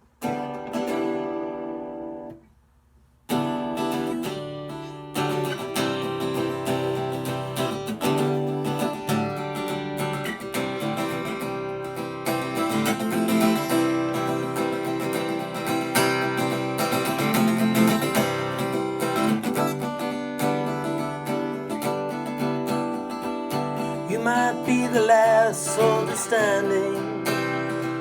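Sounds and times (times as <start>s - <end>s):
acoustic guitar strumming: 0.2s - 2.4s, 3.3s - 28.0s.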